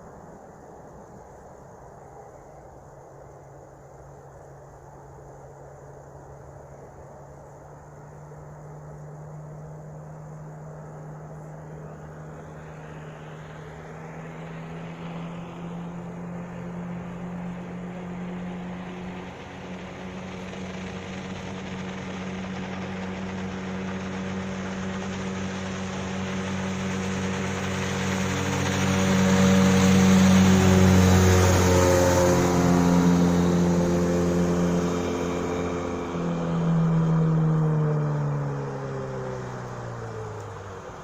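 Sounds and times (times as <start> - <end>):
two-stroke outboard motor running: 8.0 - 41.0.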